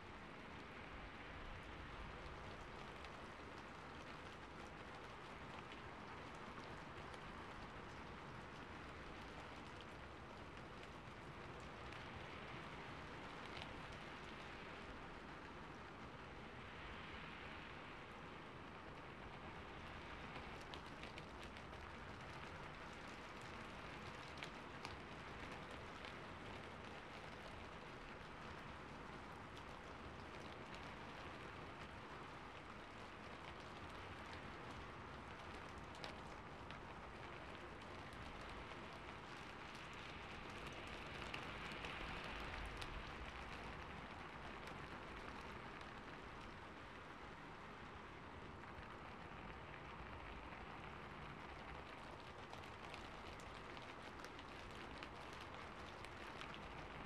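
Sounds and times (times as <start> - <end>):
rain falling on a rooftop: 0.0 - 57.0.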